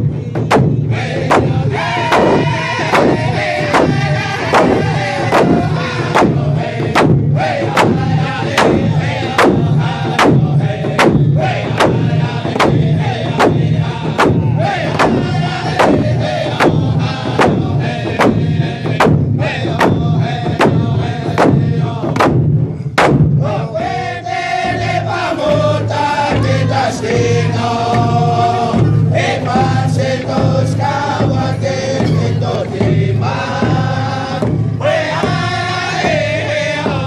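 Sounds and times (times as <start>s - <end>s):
frame drum beating: 0.0s - 37.0s
men singing together: 0.0s - 37.0s.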